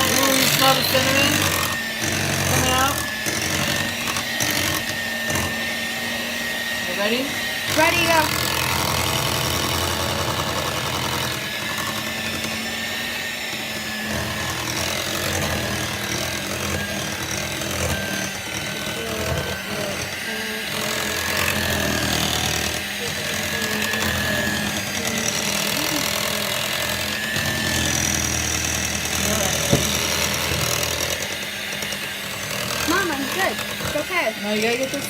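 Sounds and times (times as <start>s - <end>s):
electric hand mixer running: 0.0s - 35.0s.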